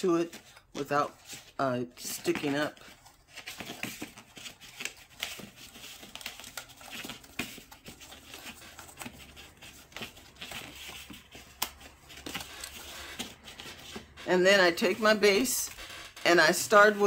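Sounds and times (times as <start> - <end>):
paper rustling and crinkling: 0.2 - 17.0
cardstock being folded by hand: 0.3 - 16.2.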